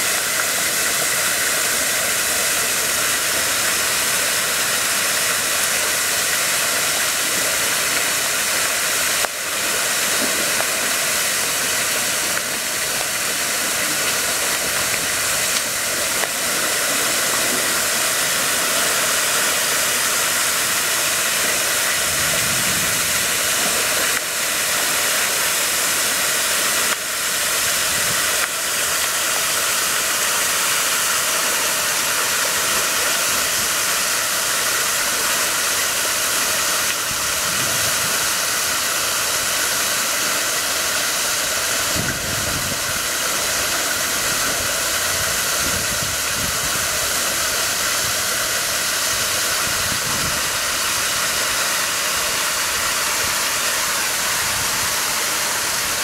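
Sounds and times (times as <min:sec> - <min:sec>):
falling water hiss: 0:00.0 - 0:56.0.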